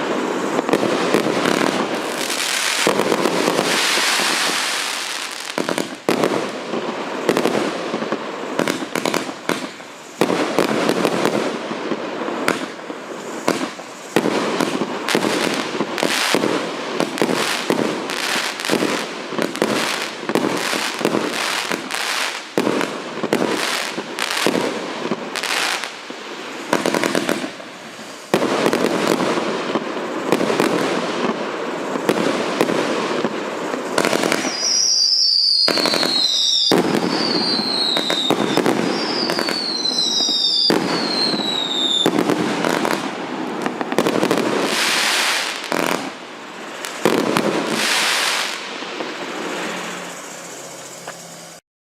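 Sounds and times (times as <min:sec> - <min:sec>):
fireworks launching and bursting: 0:00.0 - 0:51.6.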